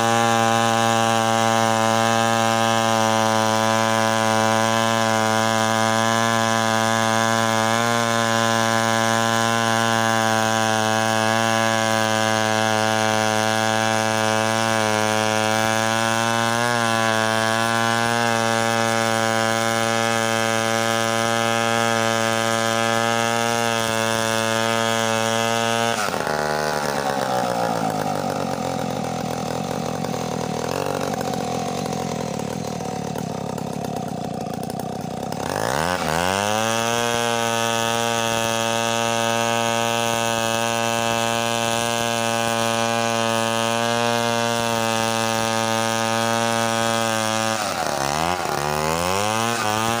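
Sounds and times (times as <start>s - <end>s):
chainsaw cutting log: 0.0s - 50.0s.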